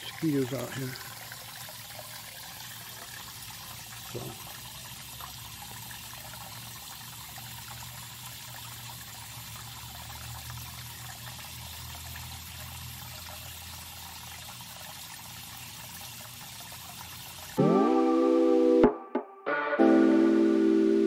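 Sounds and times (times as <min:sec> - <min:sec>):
water trickling in pond: 0:00.0 - 0:17.6.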